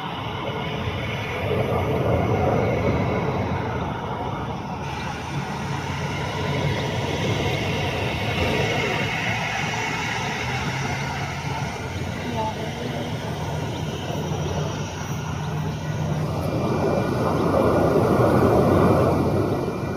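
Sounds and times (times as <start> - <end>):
jet engine rumble: 0.0 - 19.9.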